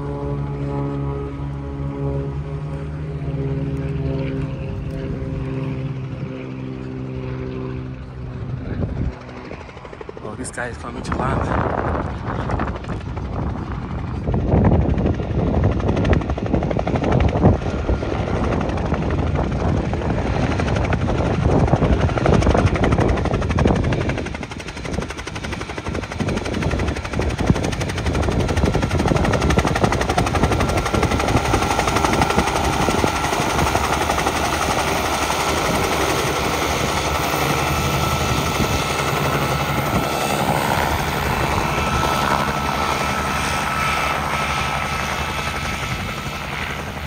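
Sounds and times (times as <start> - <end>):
helicopter rotor blades chopping: 0.0 - 47.0.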